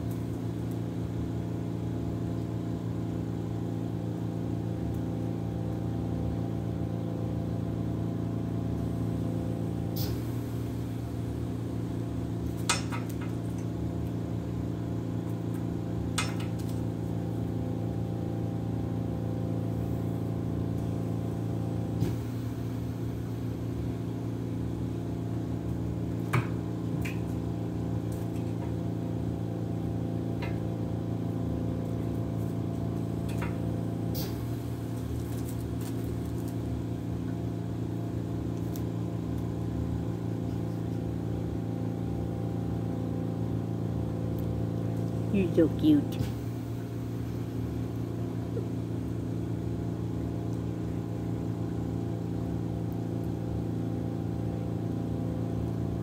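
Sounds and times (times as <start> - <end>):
oxygen concentrator compressor humming: 0.0 - 56.0.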